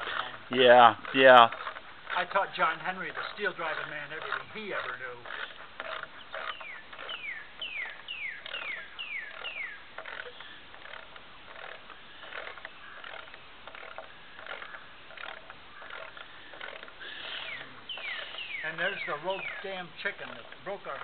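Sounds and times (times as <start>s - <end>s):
faint clicks and rustles: 0.0s - 21.0s.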